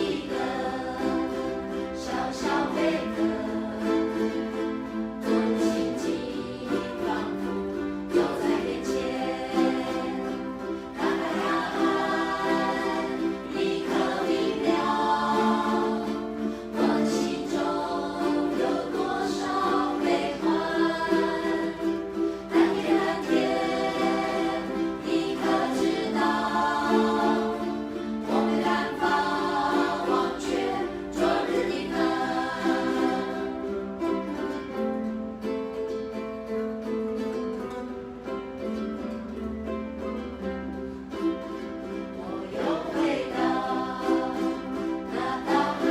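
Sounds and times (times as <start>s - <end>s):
group singing in unison: 0.0s - 34.2s, 41.5s - 45.9s
ukuleles strumming: 0.0s - 45.9s.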